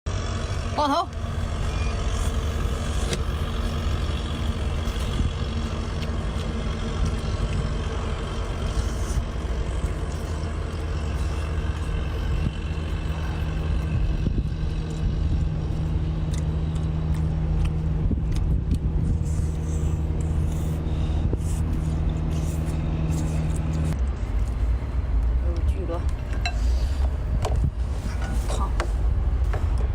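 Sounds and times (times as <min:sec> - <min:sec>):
engine running: 0:00.1 - 0:29.9.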